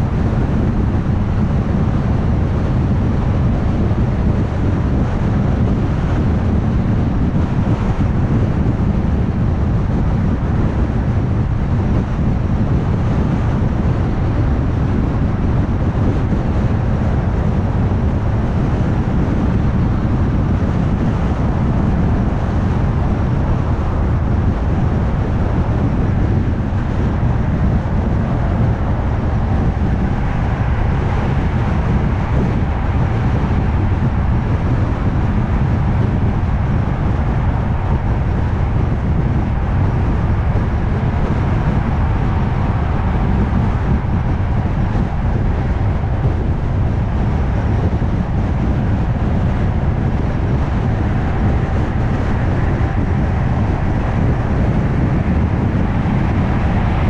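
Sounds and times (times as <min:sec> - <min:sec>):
car cruising road noise: 0:00.0 - 0:57.0.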